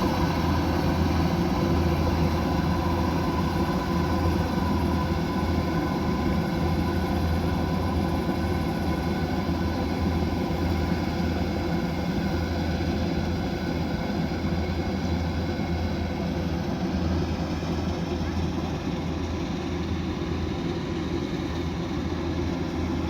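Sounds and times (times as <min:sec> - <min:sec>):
combine harvester engine drone: 0:00.0 - 0:23.0.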